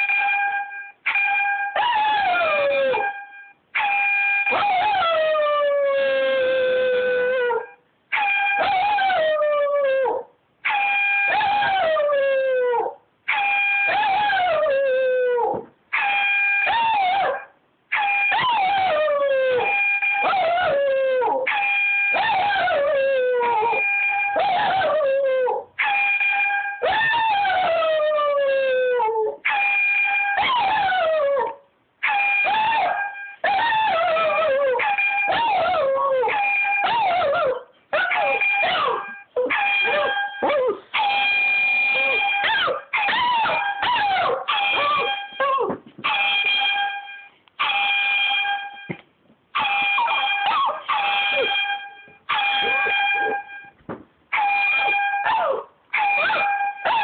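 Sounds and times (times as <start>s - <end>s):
dog howling: 1.1s - 3.1s, 3.8s - 26.2s, 26.8s - 29.8s, 30.4s - 46.5s, 49.6s - 53.7s, 54.3s - 57.0s.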